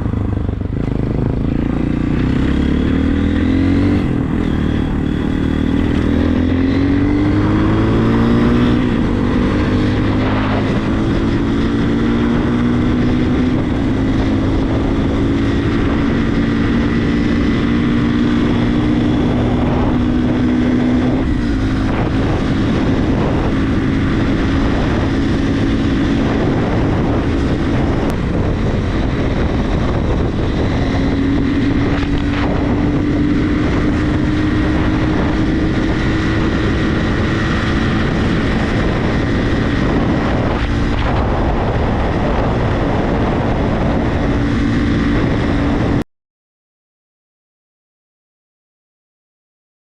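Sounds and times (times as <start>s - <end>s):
motorcycle engine accelerating: 0.0s - 46.0s
wind rushing over microphone: 0.0s - 46.0s.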